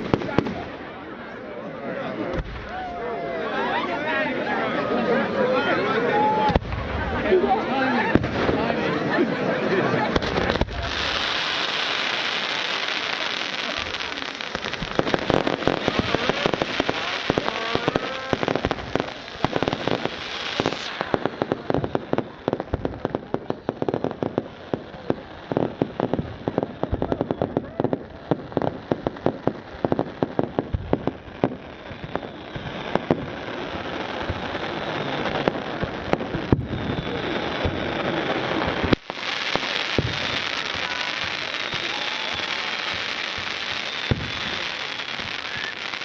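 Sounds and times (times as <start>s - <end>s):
fireworks cracking and banging: 0.0s - 1.3s, 2.1s - 46.0s
hissing crackle of fireworks: 0.0s - 1.4s, 2.0s - 46.0s.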